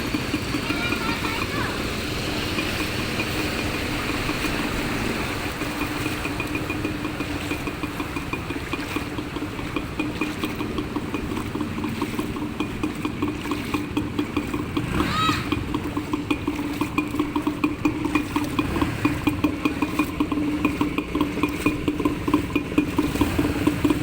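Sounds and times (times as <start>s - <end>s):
small engine running: 0.0s - 24.0s
water sloshing: 0.0s - 24.0s.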